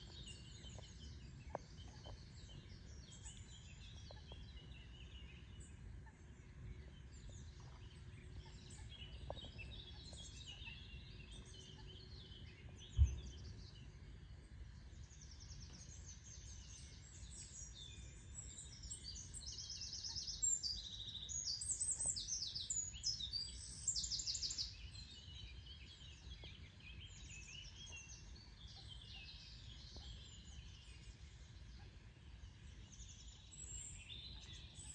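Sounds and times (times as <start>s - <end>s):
wild birds singing and calling: 0.0s - 34.9s.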